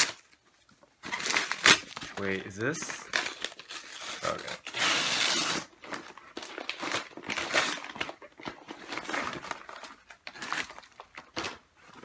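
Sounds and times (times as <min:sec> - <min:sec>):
parcel packaging rustling: 0:00.0 - 0:12.0.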